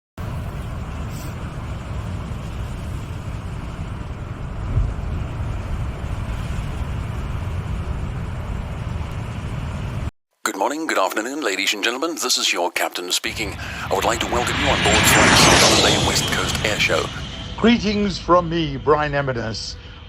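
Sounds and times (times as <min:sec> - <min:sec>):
airliner cabin rumble: 0:00.2 - 0:10.1, 0:13.3 - 0:20.0.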